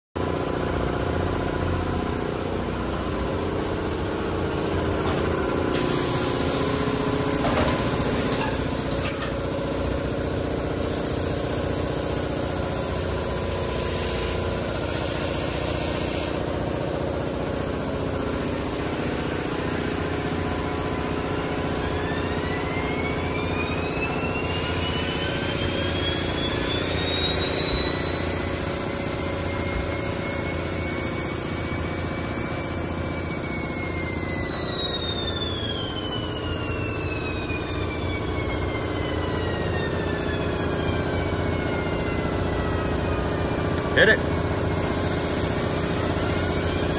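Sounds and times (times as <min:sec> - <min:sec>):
motor spinning up whine: 0:01.1 - 0:46.9.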